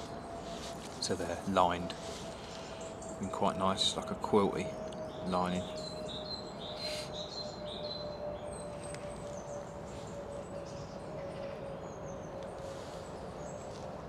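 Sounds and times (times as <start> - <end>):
faint steady tone: 0.0 - 14.0
small birds chirping: 0.0 - 14.0.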